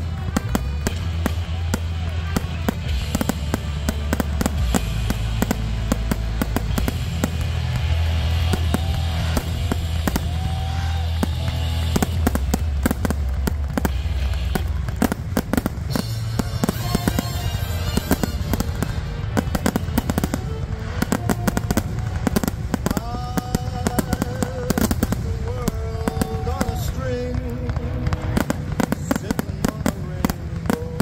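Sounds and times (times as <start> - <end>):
fireworks firing rapid volley: 0.0 - 31.0.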